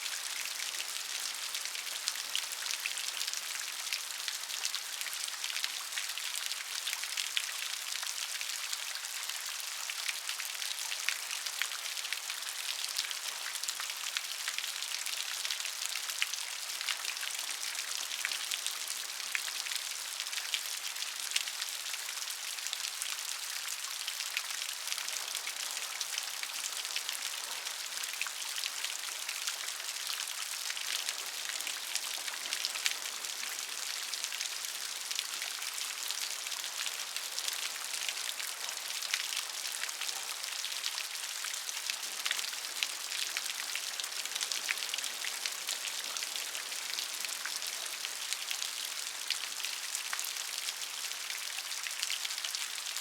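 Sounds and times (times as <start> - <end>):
rain pattering on a surface: 0.0 - 53.0.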